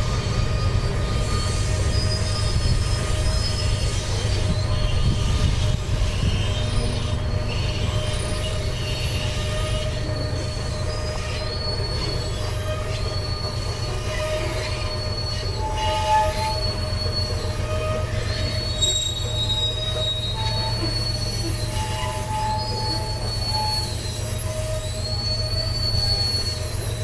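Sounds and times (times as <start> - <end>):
freight train rumbling: 0.0 - 27.0
train wheels squealing: 0.0 - 27.0.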